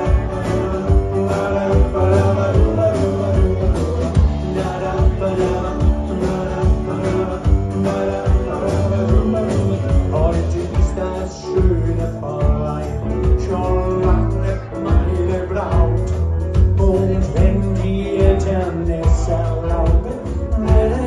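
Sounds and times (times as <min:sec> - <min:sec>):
live band playing upbeat song: 0:00.0 - 0:21.0.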